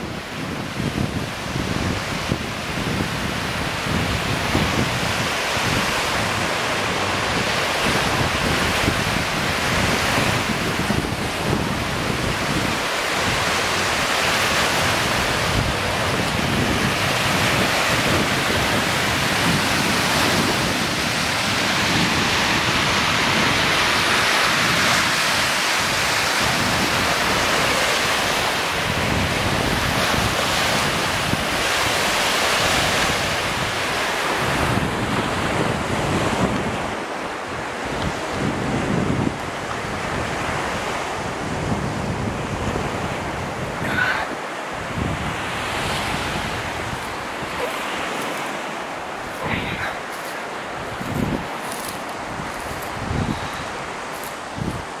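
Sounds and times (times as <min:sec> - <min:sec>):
waves washing up a beach: 0:00.0 - 0:55.0
wind buffeting microphone: 0:00.0 - 0:55.0.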